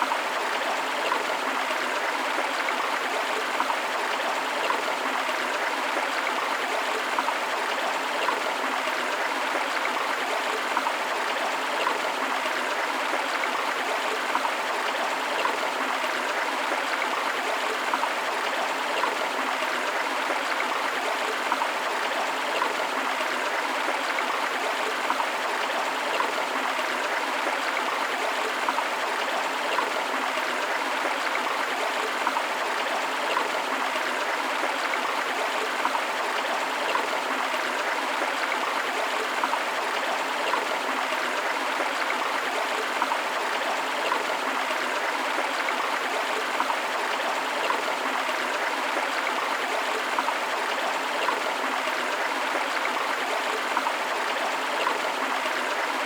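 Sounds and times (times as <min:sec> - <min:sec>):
waterfall: 0:00.0 - 0:56.0.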